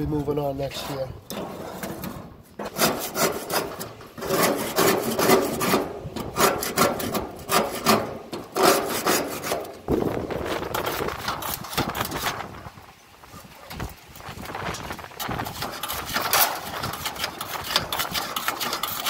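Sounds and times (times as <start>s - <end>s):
wire brush scrubbing grill: 0.1s - 19.0s.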